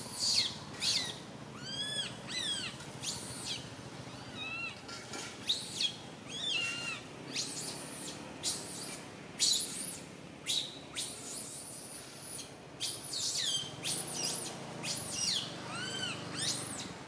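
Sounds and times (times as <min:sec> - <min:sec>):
baby monkey crying and squealing: 0:00.2 - 0:04.8, 0:05.4 - 0:16.9.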